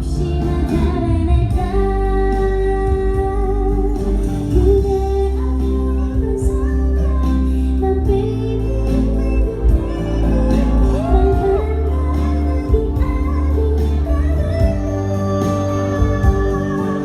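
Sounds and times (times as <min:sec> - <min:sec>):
band with heavy bass: 0:00.0 - 0:17.0
female singer holding long notes: 0:00.0 - 0:17.0.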